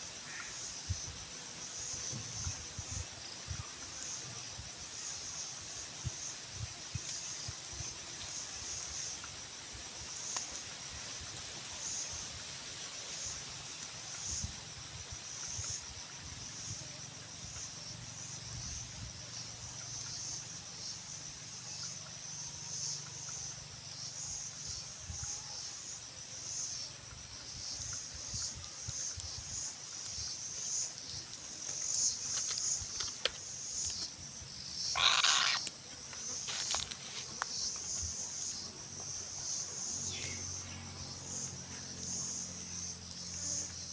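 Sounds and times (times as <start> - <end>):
insects chirping chorus: 0.0 - 43.9
short louder insect call: 0.0 - 43.9.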